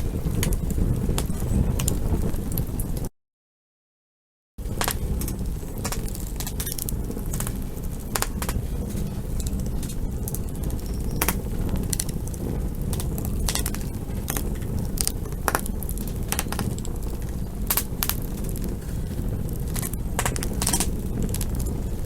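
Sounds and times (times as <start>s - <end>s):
campfire crackling and popping: 0.0s - 3.1s, 4.6s - 22.0s.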